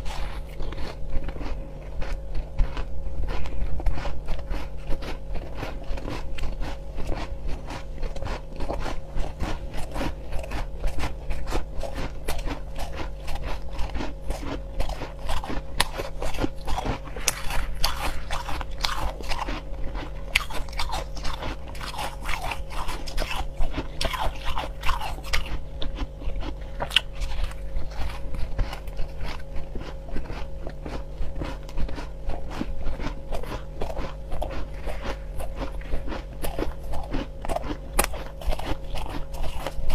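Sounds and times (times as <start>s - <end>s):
crunching and chewing crushed ice: 0.0s - 39.9s
steady low hum: 0.0s - 39.9s.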